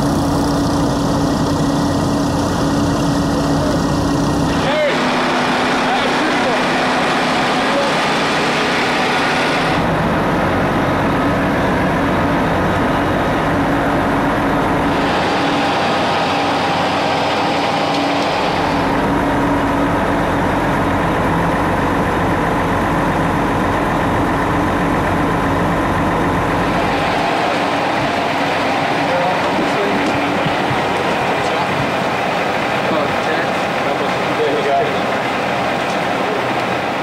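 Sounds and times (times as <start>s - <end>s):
vehicle engine idling drone: 0.0s - 37.0s.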